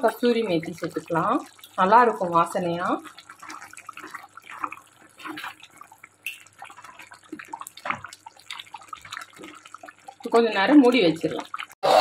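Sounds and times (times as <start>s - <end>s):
gravy simmering and bubbling: 0.0s - 11.9s.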